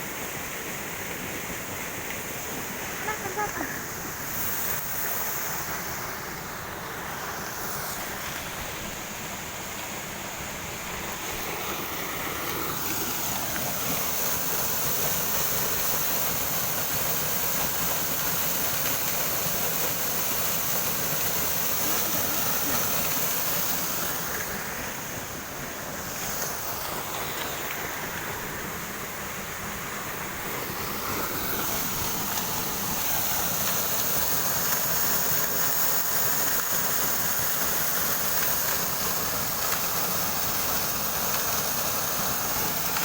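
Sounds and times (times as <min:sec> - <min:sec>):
waterfall rushing: 0:00.2 - 0:43.0.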